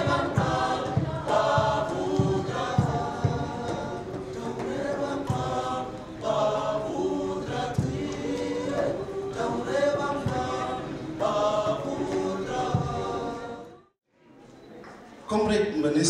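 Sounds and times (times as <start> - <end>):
youth choir singing in harmony: 0.0 - 14.0.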